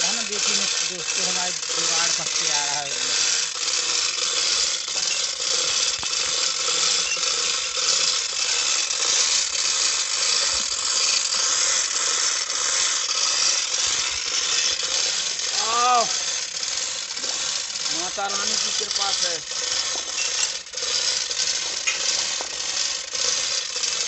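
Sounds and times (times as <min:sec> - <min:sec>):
steel chain rattling and clinking: 0:00.0 - 0:24.0.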